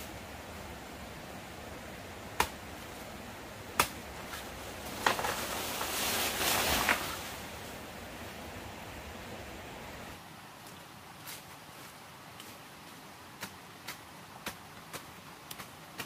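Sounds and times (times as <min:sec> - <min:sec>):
rustling hiss: 0:00.0 - 0:16.0.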